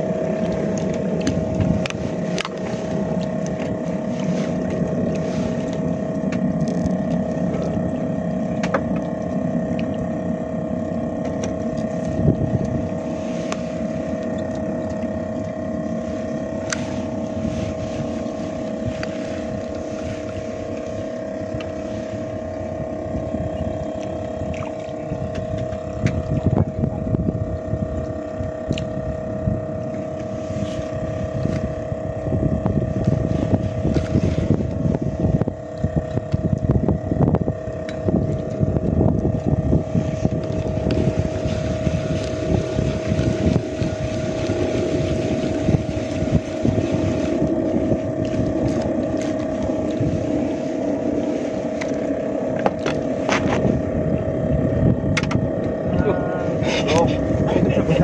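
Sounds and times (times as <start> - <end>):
motorboat engine humming: 0.0 - 58.0
wind buffeting microphone: 0.0 - 58.0.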